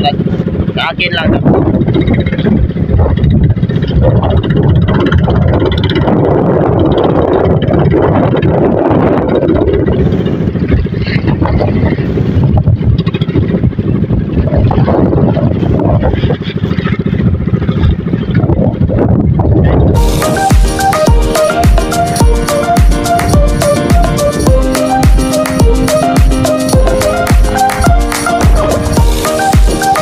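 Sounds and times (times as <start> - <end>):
boat engine running: 0.0 - 30.0
wind and rushing water: 0.0 - 30.0.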